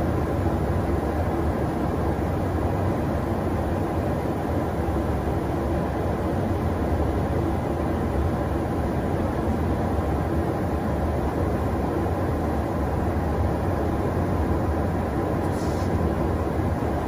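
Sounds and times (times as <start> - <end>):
aircraft engine and airflow roar: 0.0 - 17.0.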